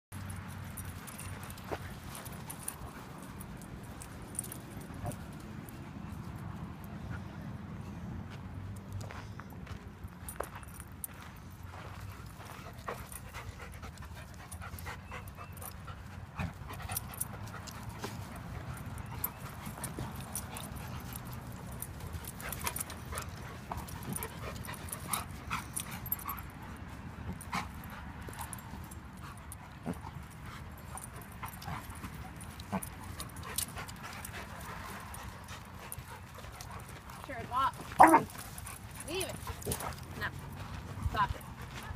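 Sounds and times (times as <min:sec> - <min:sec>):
dogs panting: 0:00.2 - 0:41.9.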